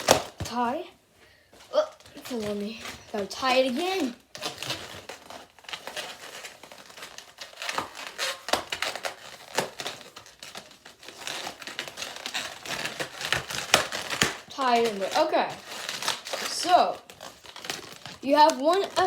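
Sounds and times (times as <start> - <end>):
balloons rubbing and squeaking: 1.5 - 19.0.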